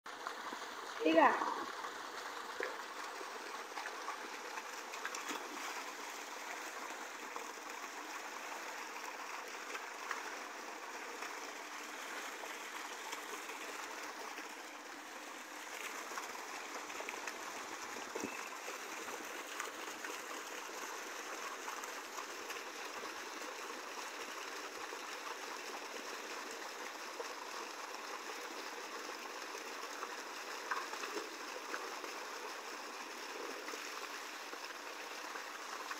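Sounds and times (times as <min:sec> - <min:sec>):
water rushing and splashing: 0:00.1 - 0:35.9.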